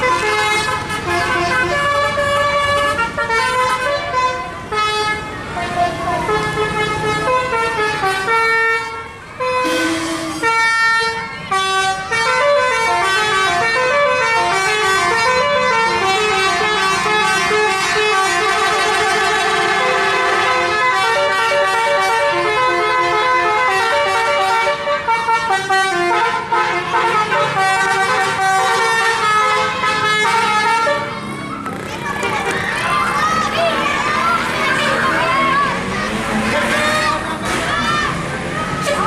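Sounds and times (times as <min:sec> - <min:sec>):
musical bus horn melody: 0:00.0 - 0:31.3.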